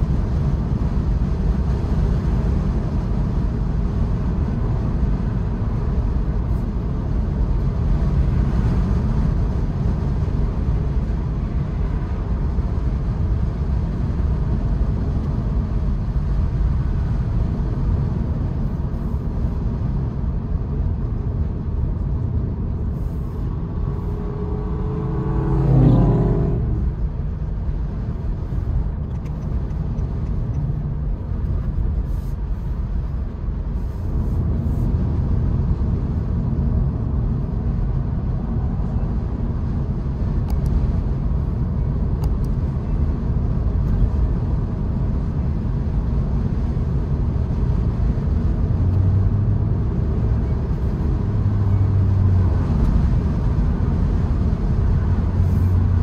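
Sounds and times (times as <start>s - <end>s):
passing vehicle: 0.0s - 56.0s
tyre and wind rumble in car: 0.0s - 56.0s.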